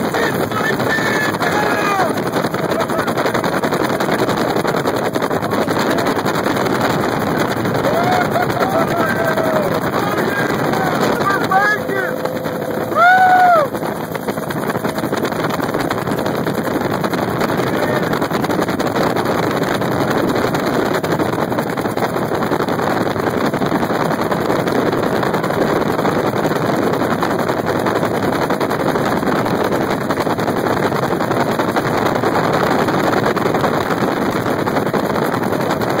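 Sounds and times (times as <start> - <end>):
helicopter engine and rotor noise: 0.0 - 36.0
wind rushing: 0.0 - 36.0.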